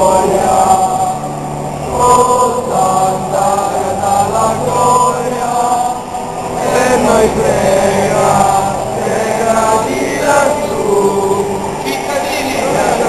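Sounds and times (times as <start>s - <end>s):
crowd chanting: 0.0s - 13.0s.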